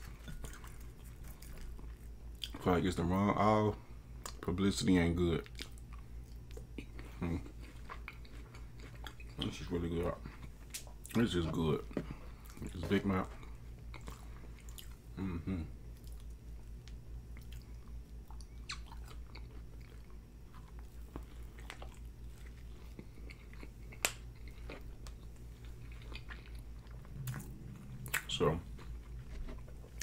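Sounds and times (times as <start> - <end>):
biting and chewing burger: 0.0 - 2.7, 5.4 - 30.0.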